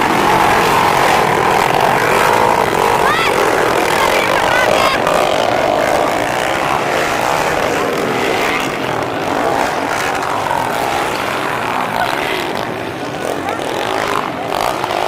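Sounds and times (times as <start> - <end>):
motorcycle engines revving high: 0.0 - 15.0.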